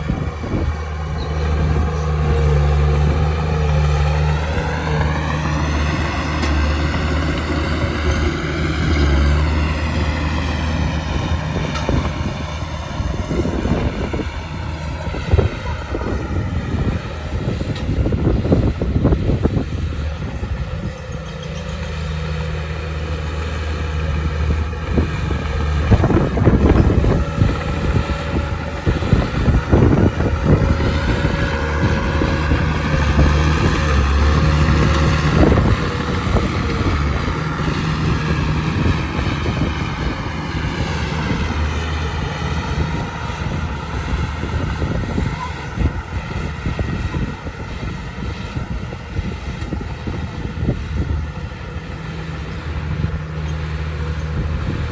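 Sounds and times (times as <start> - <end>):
diesel earthmoving machinery engine: 0.0 - 54.9
machinery whine: 0.0 - 54.9.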